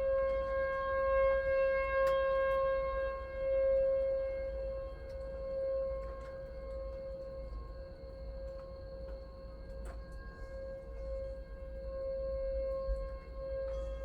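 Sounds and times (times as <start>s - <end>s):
warning siren steady tone: 0.0s - 14.0s.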